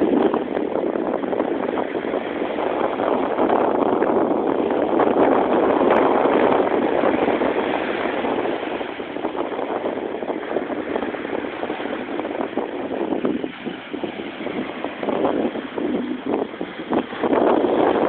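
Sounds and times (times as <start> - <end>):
sea waves rushing surf: 0.0 - 18.0.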